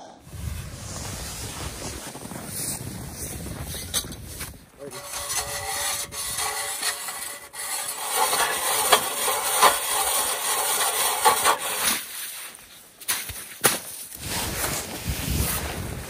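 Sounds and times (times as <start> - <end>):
ice auger blades scraping ice: 1.2 - 16.0.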